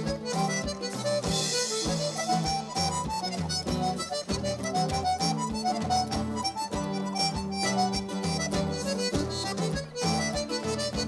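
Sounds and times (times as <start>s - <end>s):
accordion melody: 0.0s - 11.0s
drum kit beat: 0.0s - 11.0s
strummed guitar: 0.0s - 11.0s.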